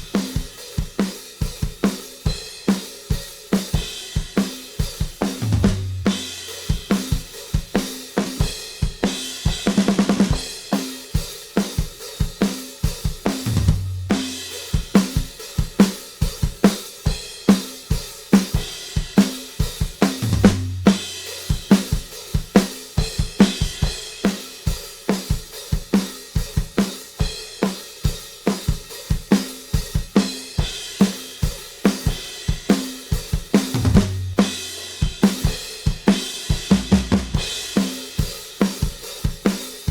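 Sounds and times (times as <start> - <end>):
drum kit groove: 0.0 - 39.9.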